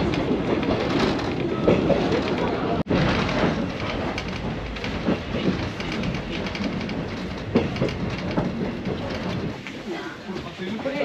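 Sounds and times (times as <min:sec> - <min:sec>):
rattles and clicks: 0:00.0 - 0:09.8
train wheels rumbling on rails: 0:00.0 - 0:11.0.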